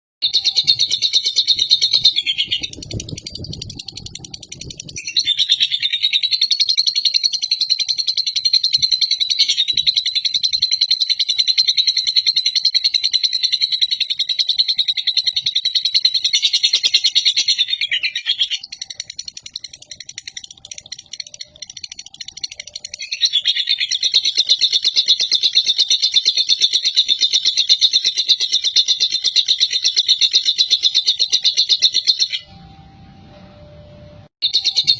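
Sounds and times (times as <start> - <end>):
lovebird chattering trill: 0.2 - 32.5, 34.4 - 34.9.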